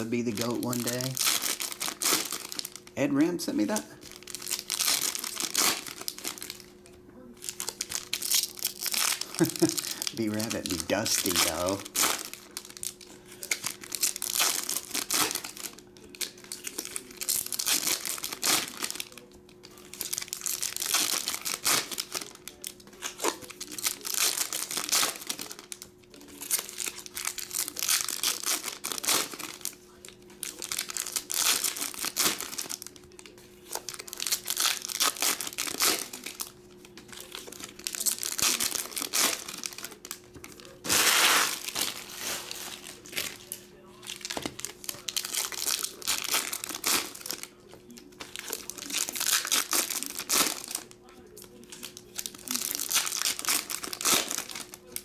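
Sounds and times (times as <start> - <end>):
faint hum: 0.0 - 55.0
foil wrappers crinkling: 0.0 - 55.0.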